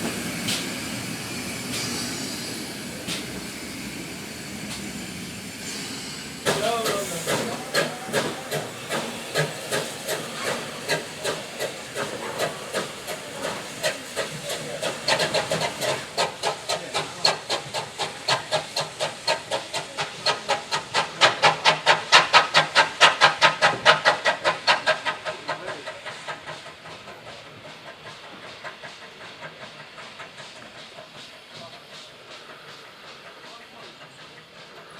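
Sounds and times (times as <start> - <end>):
steam locomotive exhaust chuffing: 0.0 - 34.9.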